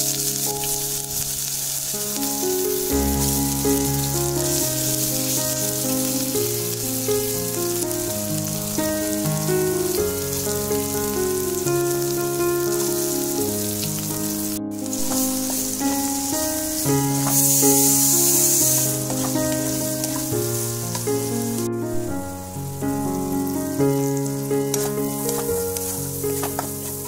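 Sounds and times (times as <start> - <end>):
instrumental background music: 0.0 - 27.0
vegetables sizzling in oil: 0.0 - 27.0.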